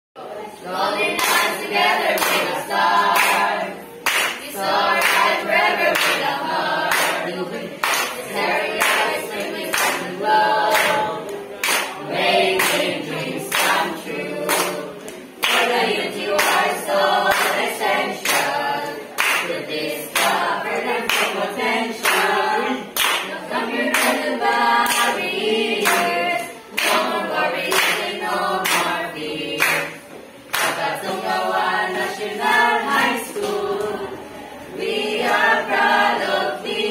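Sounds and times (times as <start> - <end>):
teenagers singing a hymn: 0.2 - 36.9
hands clapping in a steady beat: 1.0 - 22.4, 23.0 - 34.0, 34.8 - 36.9.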